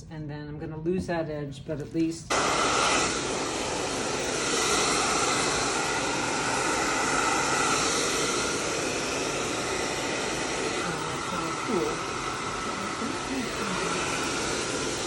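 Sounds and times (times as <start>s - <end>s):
hair dryer running: 2.3s - 15.0s.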